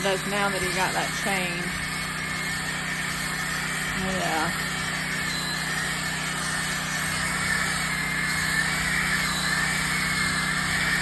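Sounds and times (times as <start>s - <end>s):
power sander sanding wood: 0.0s - 11.0s.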